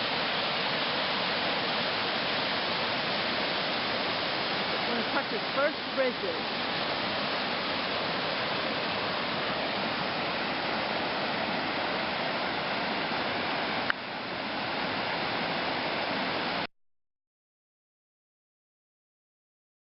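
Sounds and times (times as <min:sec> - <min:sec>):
water rushing down creek cascade: 0:00.0 - 0:16.7.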